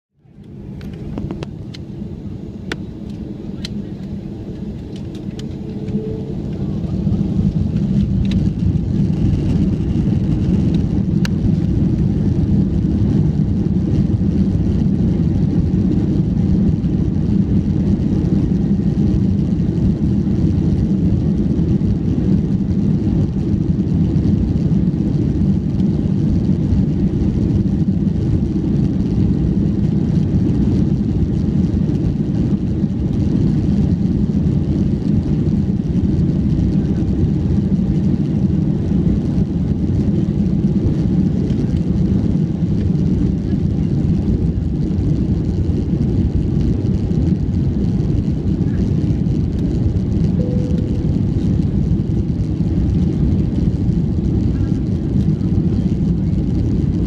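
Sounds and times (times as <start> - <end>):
jet engines roaring in cabin: 0.2 - 57.0.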